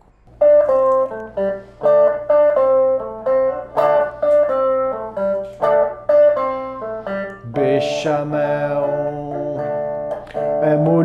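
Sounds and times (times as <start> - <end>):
clean electric guitar melody: 0.3 - 11.0.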